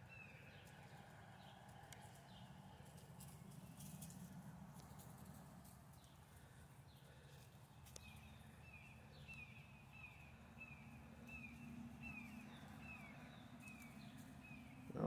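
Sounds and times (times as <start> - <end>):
bird chirping: 0.0 - 4.2, 5.9 - 15.0.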